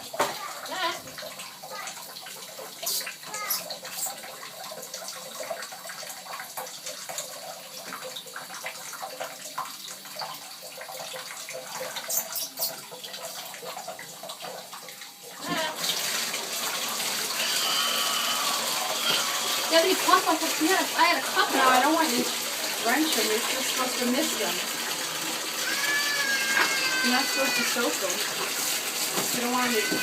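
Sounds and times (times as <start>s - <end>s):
running water rushing: 0.0s - 30.0s
water splashing in a bath: 0.0s - 30.0s.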